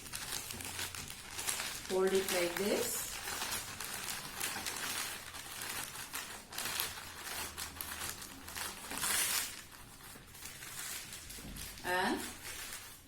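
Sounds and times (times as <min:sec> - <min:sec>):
newspaper crumpling: 0:00.0 - 0:13.0.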